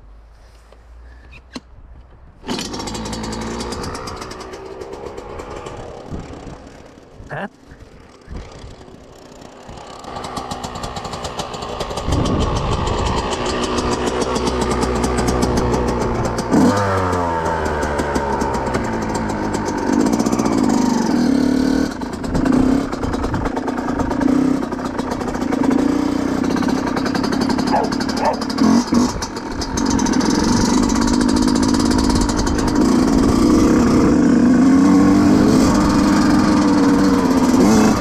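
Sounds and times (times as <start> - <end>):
two-stroke motorcycle engine revving: 2.4 - 38.0.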